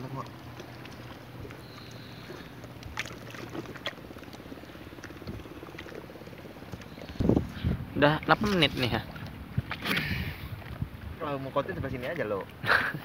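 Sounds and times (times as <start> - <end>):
faint low pulsing hum: 0.0 - 11.8.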